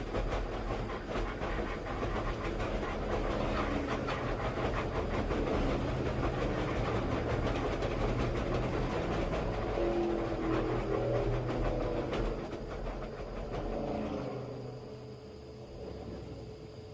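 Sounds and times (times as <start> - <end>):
clatter and rattle: 0.0 - 14.7.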